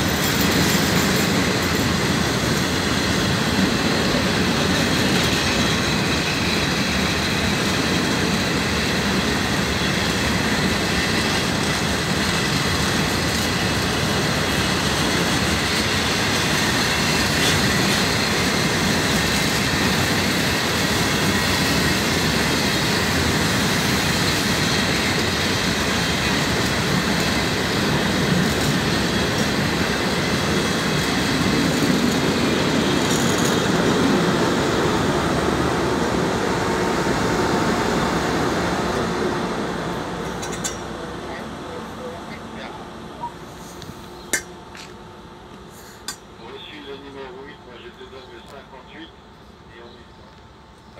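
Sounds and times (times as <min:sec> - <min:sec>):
diesel locomotive: 0:00.0 - 0:50.9
train wheels running over track: 0:00.0 - 0:50.9.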